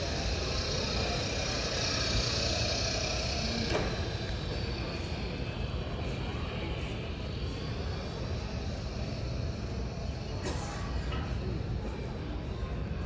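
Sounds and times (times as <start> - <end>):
terminal hall noise: 0.0 - 13.0.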